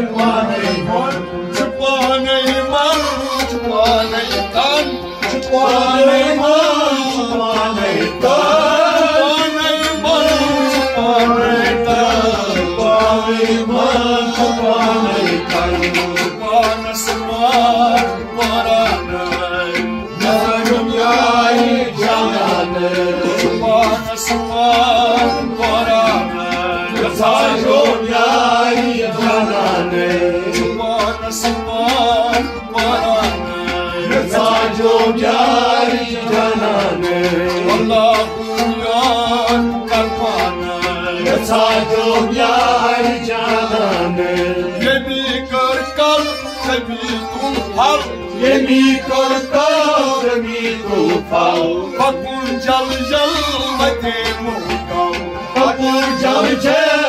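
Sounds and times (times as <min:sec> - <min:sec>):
person singing devotional song: 0:00.0 - 0:57.0.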